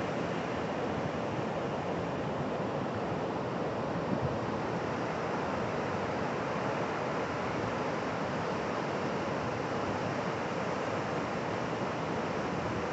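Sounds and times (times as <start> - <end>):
ocean surf washing on a beach: 0.0 - 12.9.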